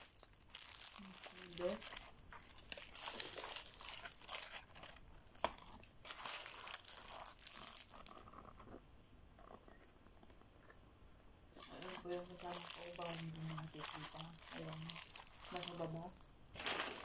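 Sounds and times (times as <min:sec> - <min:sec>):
paper wrapper crinkling: 0:00.0 - 0:08.8, 0:11.5 - 0:17.0.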